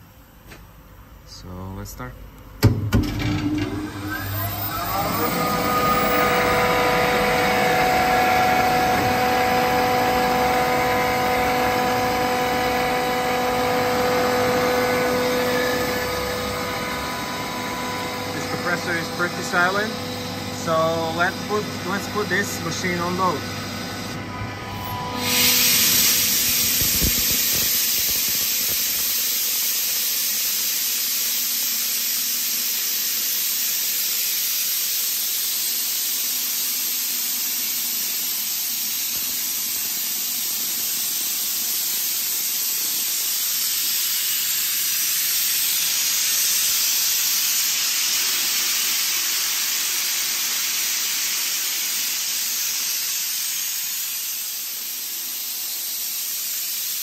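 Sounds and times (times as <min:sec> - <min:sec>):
air compressor hissing: 0:03.7 - 0:57.0.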